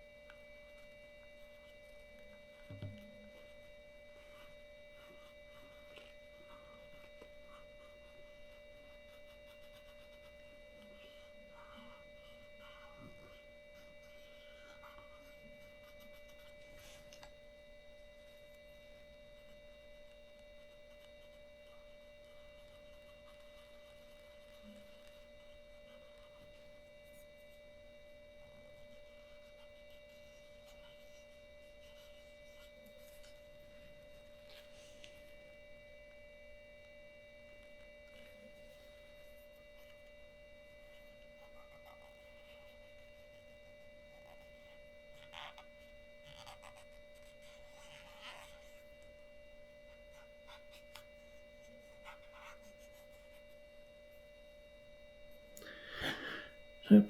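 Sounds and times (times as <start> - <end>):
faint high electronic whine: 0.0 - 57.0.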